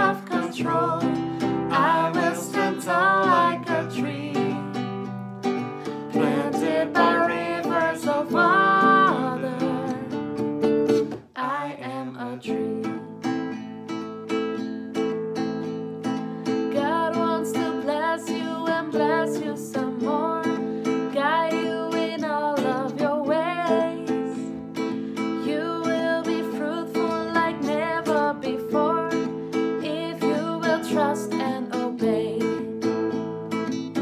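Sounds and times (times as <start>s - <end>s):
woman singing: 0.0s - 5.2s, 5.8s - 10.5s, 11.1s - 13.4s, 16.7s - 33.2s
classical guitar strumming: 0.0s - 34.0s.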